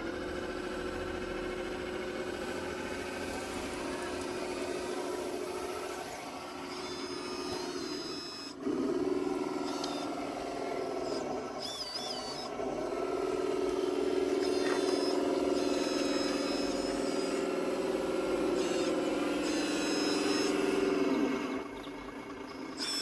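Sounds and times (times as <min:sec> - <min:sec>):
hydraulic pump whining: 0:00.0 - 0:23.0.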